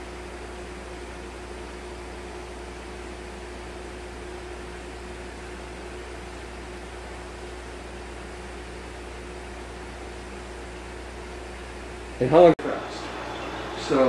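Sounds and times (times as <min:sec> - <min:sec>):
equipment hiss and hum: 0:00.0 - 0:14.0.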